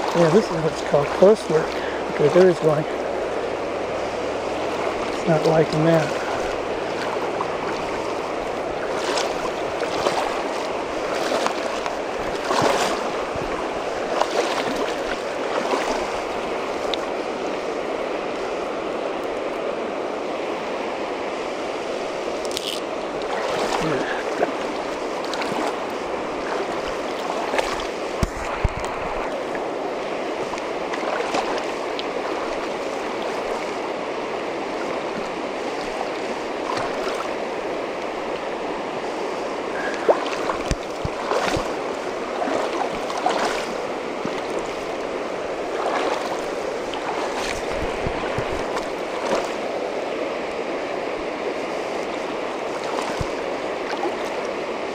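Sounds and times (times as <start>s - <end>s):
river current rushing: 0.0s - 54.9s.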